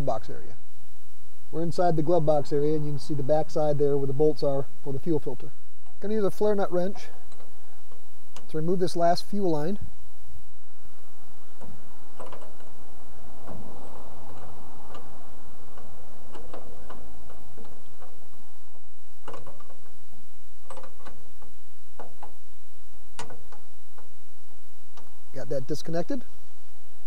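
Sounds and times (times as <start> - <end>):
soft rustle: 0.0 - 27.0.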